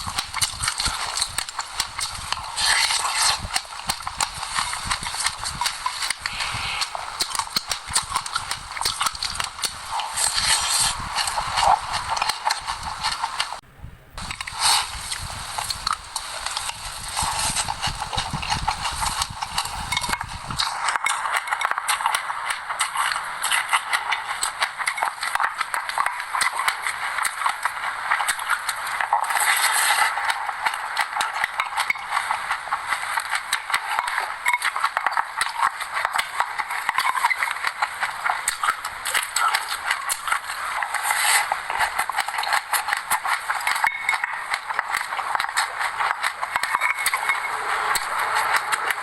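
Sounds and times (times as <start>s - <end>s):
seeds crackling and crunching: 0.0s - 13.6s, 14.2s - 49.0s.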